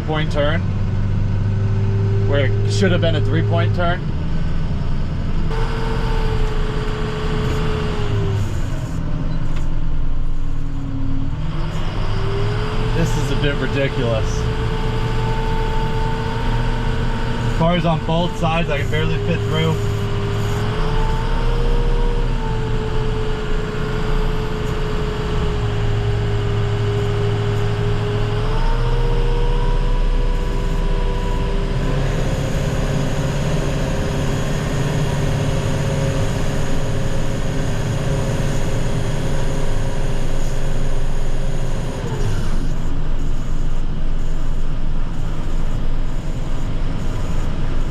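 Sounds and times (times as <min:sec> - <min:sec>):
engine whine: 0:00.0 - 0:47.9
truck engine rumble: 0:00.0 - 0:47.9.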